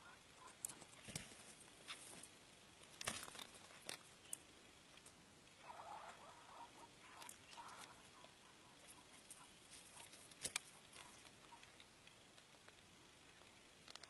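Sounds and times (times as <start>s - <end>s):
clicks and rustles in grass: 0.4s - 5.2s, 7.1s - 14.0s.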